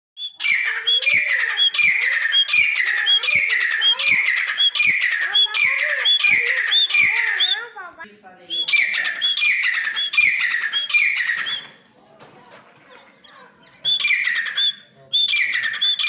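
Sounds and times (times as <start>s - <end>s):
francolin calling: 0.2s - 7.8s, 8.5s - 11.7s, 13.7s - 16.0s.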